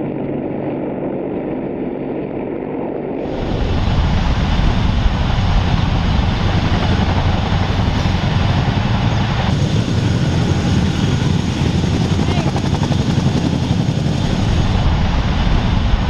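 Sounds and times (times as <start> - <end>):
helicopter rotor chop and engine: 0.0 - 16.0.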